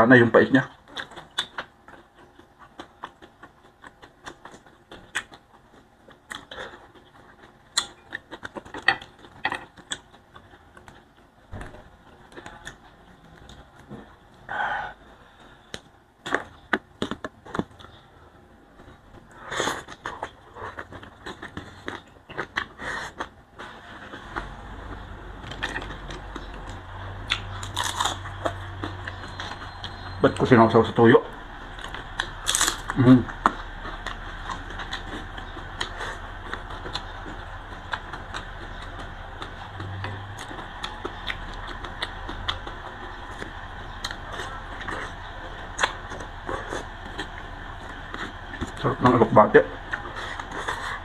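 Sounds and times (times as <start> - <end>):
chewing with mouth smacks: 0.7 - 14.5, 18.7 - 23.4, 24.1 - 30.5, 31.6 - 48.8, 49.8 - 51.0.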